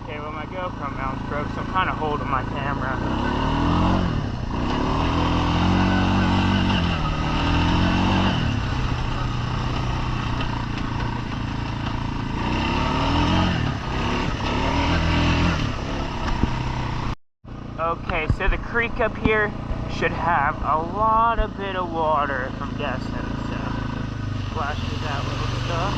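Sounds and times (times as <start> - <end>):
atv engine revving: 0.0 - 25.9.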